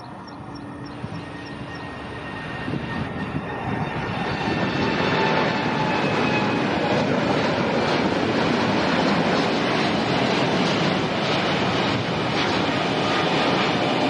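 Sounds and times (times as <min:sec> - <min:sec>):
jet engines rushing rumble: 0:00.0 - 0:14.0.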